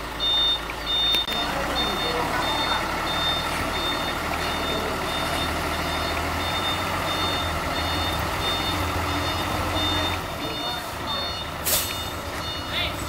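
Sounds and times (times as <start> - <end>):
diesel truck engine running: 0.0 - 13.0
reversing alarm beeping: 0.0 - 13.0.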